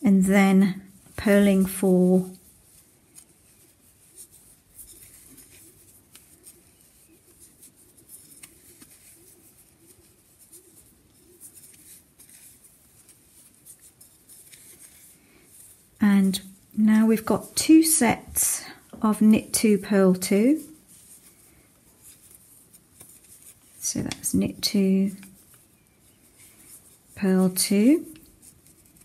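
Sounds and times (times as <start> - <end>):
yarn rustling: 0.0 - 29.0.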